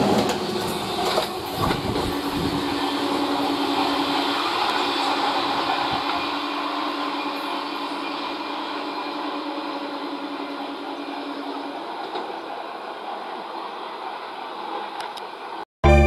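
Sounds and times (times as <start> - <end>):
electric train rumbling on track: 0.0 - 16.0.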